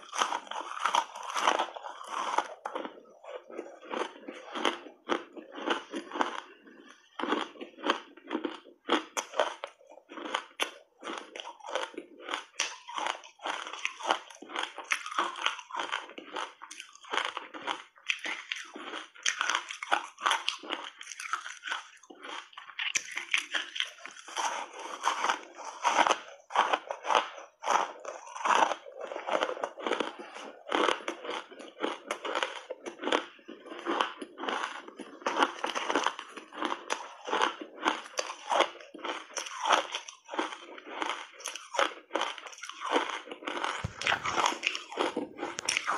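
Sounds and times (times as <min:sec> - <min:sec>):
ice being chewed with crunches: 0:00.0 - 0:45.9.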